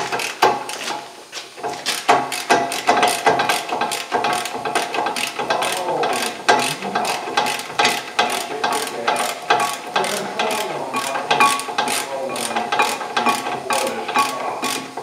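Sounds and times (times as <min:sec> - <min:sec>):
ratchet wrench clicking: 0:00.0 - 0:00.9, 0:01.9 - 0:15.0.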